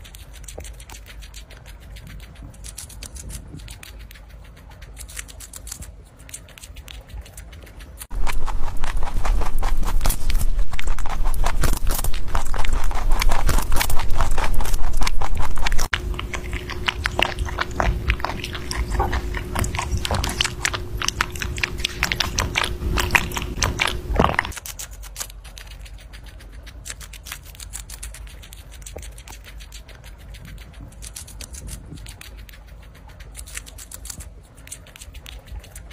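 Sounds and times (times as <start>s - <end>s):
faint steady hum: 0.0s - 35.9s
rabbits chewing: 0.0s - 35.9s.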